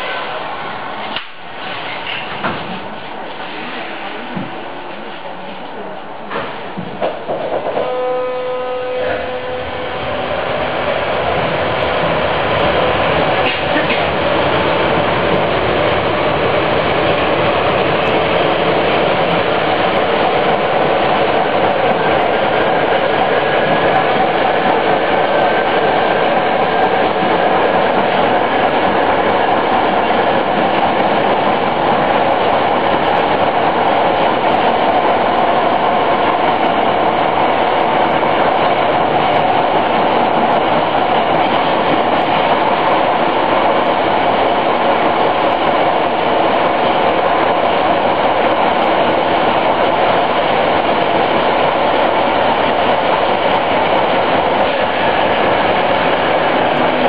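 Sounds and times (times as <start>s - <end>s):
subway train wheels rumbling: 0.0s - 57.0s.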